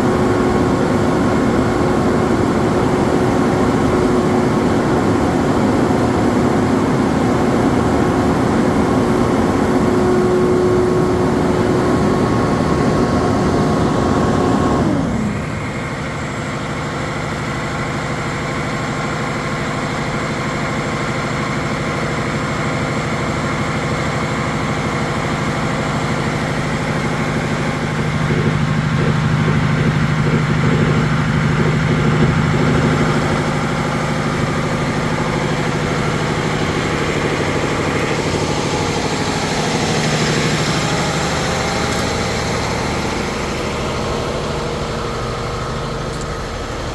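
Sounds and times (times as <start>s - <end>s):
truck engine revving and idling: 0.0s - 46.9s.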